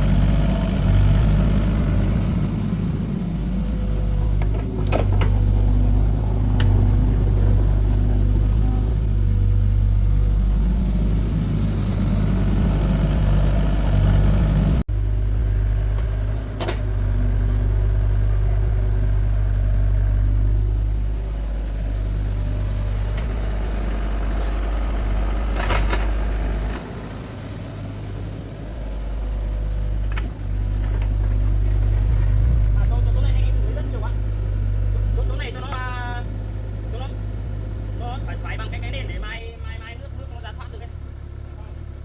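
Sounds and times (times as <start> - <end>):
engine humming: 0.0 - 42.0.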